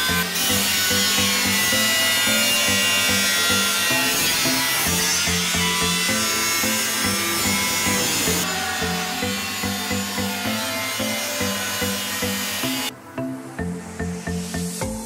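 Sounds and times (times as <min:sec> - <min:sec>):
angle grinder cutting metal: 0:00.0 - 0:12.9
background music with beat: 0:00.0 - 0:15.0.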